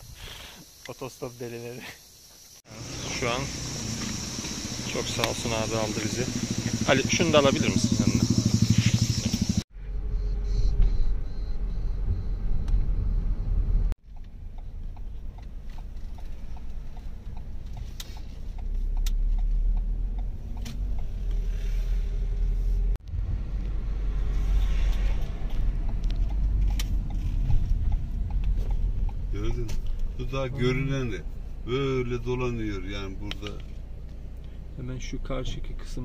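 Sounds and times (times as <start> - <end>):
car engine and road rumble: 2.1 - 36.0.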